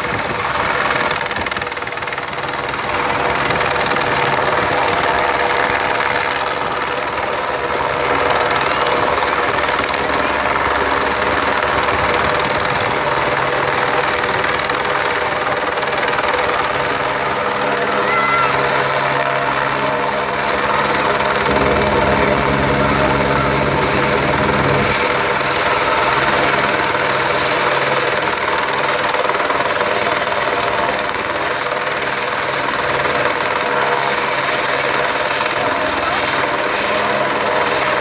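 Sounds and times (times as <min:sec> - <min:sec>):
helicopter turbine and rotor: 0:00.0 - 0:38.0.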